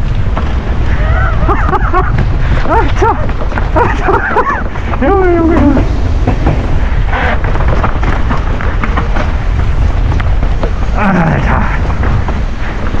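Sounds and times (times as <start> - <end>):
bike rattling and knocking: 0.0 - 13.0
wind buffeting microphone: 0.0 - 13.0.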